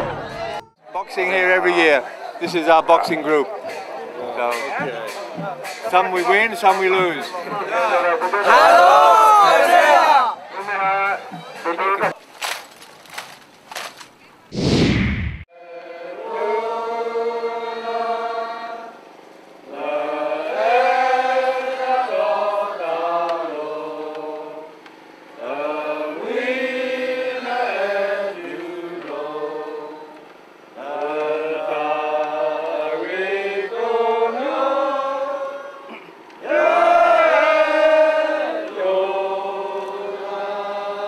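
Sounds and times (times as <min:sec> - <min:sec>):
unaccompanied chant-like singing: 0:02.0 - 0:12.2, 0:15.5 - 0:41.0.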